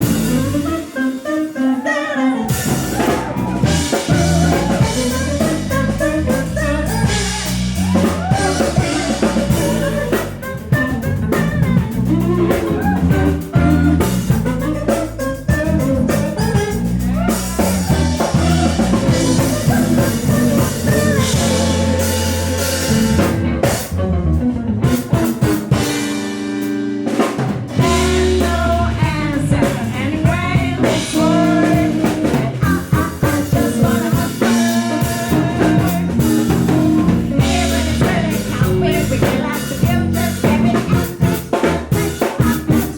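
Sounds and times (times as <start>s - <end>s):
drum kit: 0.0s - 1.8s, 2.4s - 42.9s
person singing: 0.0s - 23.3s, 27.8s - 42.9s
bass line: 0.0s - 42.9s.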